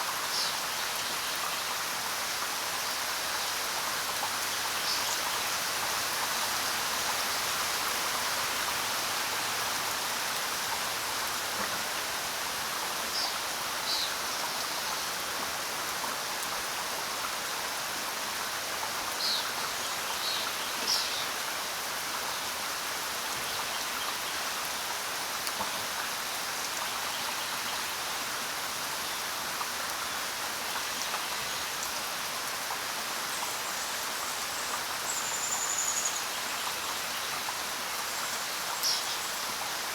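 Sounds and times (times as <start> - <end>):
rain pattering on ground: 0.0 - 39.9.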